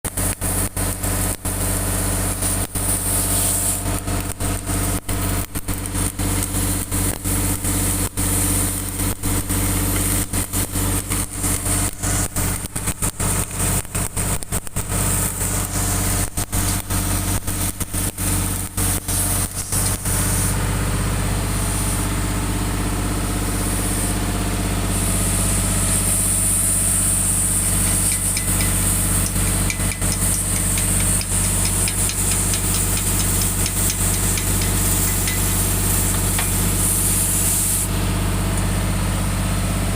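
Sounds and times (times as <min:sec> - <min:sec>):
bulldozer diesel engine running: 0:00.1 - 0:39.9.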